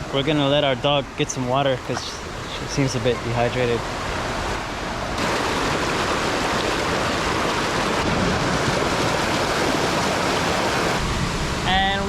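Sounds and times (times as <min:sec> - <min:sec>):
water rushing at a waterfall: 0:01.1 - 0:12.0.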